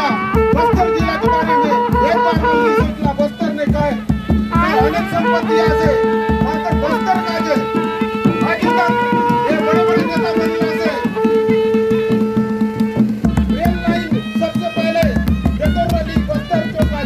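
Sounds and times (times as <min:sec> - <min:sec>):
drumming: 0:00.0 - 0:17.0
horn trumpet long notes: 0:00.0 - 0:17.0.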